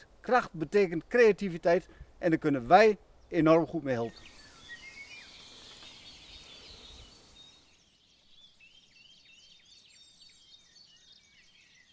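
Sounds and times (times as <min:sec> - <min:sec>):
songbirds chirping: 0:00.0 - 0:11.9.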